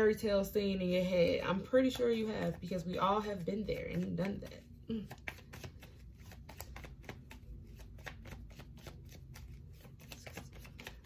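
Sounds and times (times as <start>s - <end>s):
deck of cards shuffled by hand: 1.1s - 11.0s.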